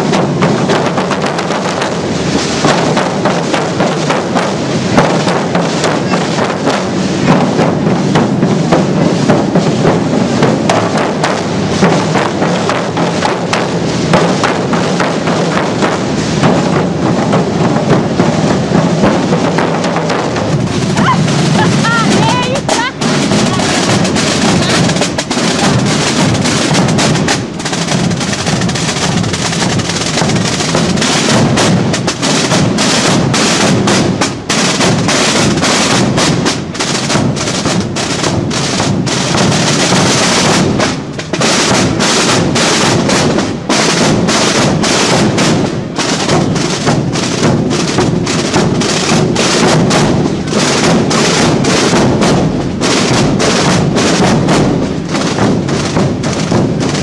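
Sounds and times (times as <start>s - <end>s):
bass drums beating: 0.0s - 57.0s
snare drums rolling: 0.0s - 57.0s.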